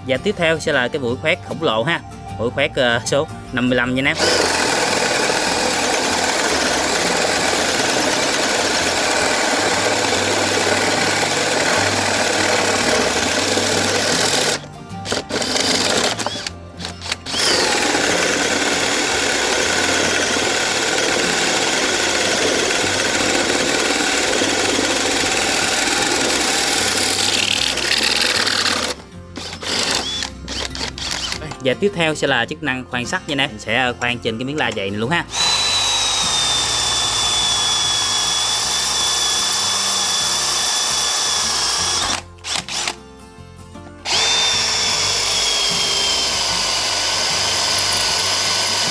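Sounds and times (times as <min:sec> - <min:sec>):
drill with hole saw cutting wood: 0:04.1 - 0:31.4, 0:35.3 - 0:43.0, 0:44.0 - 0:48.9.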